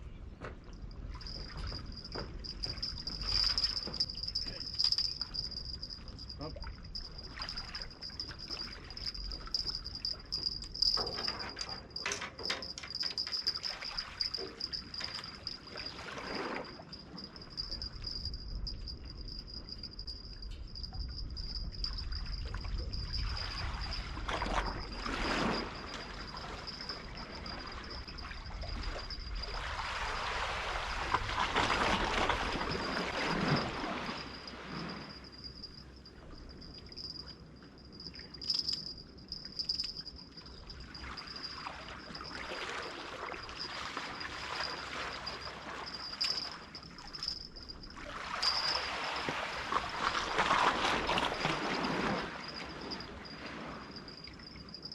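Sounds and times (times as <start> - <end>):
water sloshing and lapping: 0.0 - 54.9.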